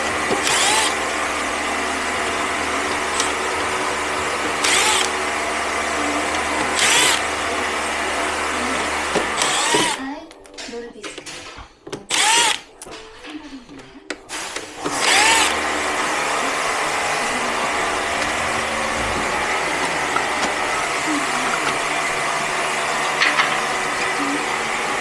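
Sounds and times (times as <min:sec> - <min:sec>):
power tool motor: 0:00.0 - 0:10.1, 0:12.1 - 0:12.8, 0:14.3 - 0:25.0.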